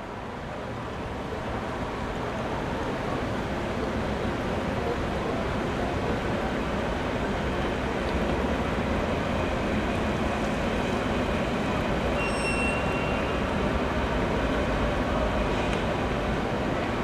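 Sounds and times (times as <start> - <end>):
city background noise: 0.0 - 17.0.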